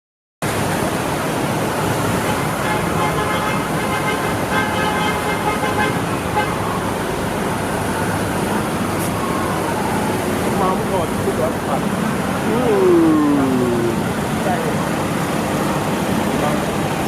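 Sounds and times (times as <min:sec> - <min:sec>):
cars driving on flooded road: 0:00.4 - 0:17.0.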